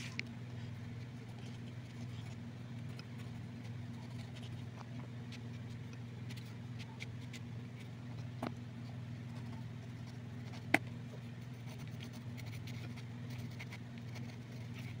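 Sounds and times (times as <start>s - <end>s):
scratching on paper: 0.0s - 15.0s
steady low hum: 0.0s - 15.0s.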